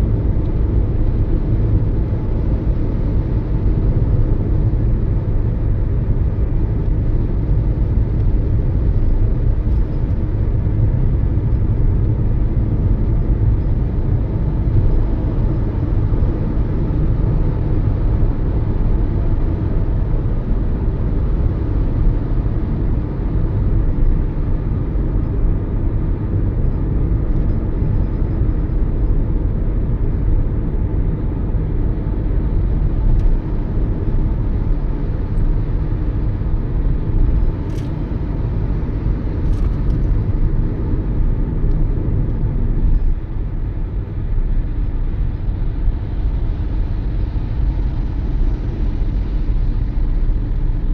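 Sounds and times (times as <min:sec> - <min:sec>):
car engine and tyre noise: 0:00.0 - 0:50.9.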